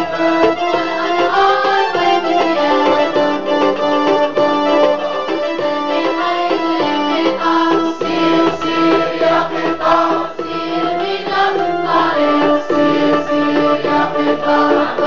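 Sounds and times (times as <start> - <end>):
children's song with keyboard: 0.0 - 15.0.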